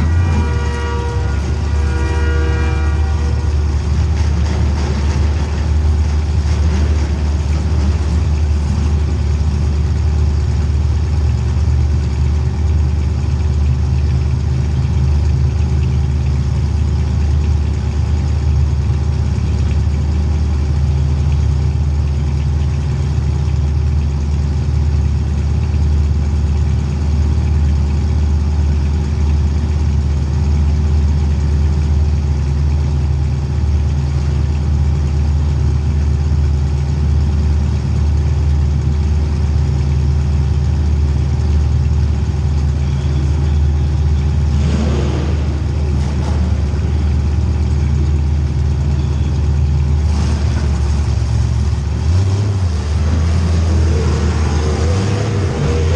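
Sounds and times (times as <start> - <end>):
race engine droning: 0.0 - 55.9.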